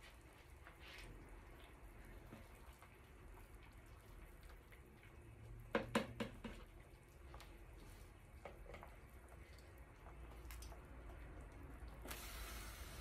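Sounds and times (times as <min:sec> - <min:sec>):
ladle stirring soup: 0:00.2 - 0:12.0
soup bubbling: 0:00.4 - 0:13.0.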